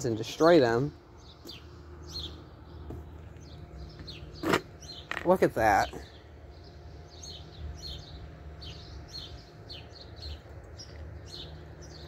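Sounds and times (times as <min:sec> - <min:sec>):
low steady hum: 0:00.0 - 0:12.0
small bird chirping: 0:01.2 - 0:05.3, 0:06.0 - 0:12.0.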